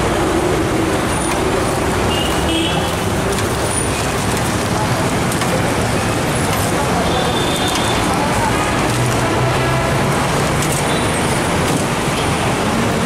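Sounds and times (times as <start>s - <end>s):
street food stall noise: 0.0s - 13.0s.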